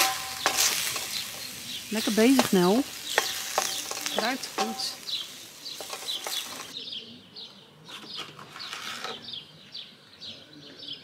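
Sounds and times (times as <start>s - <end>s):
small bird chirping: 0.2s - 11.0s.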